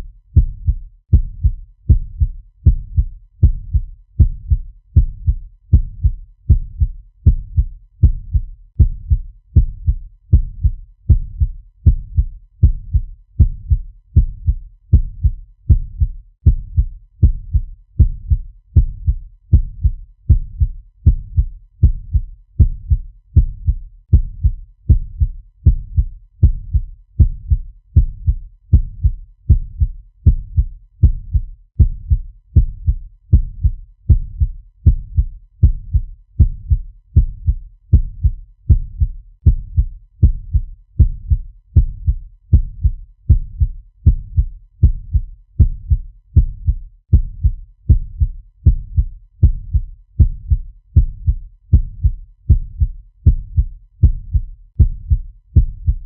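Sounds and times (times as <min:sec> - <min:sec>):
heartbeat thumps: 0:00.0 - 0:56.0.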